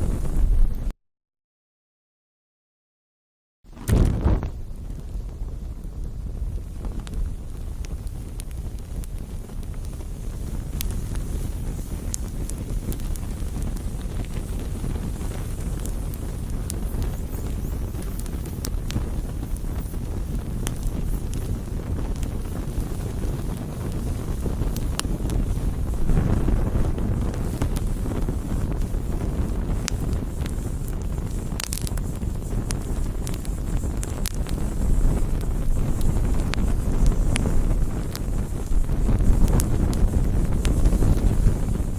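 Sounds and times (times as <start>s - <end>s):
campfire rumble: 0.0s - 0.9s, 3.7s - 41.9s
wood crackling and popping: 0.0s - 0.9s, 3.7s - 41.9s.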